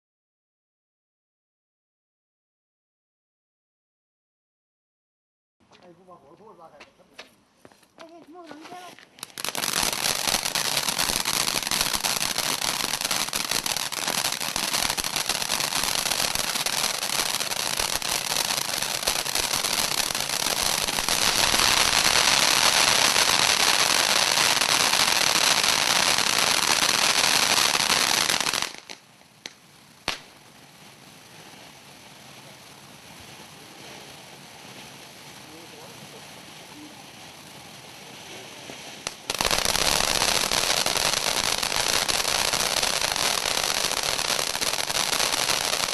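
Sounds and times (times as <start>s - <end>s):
firework fountain crackling hiss: 5.7s - 45.9s.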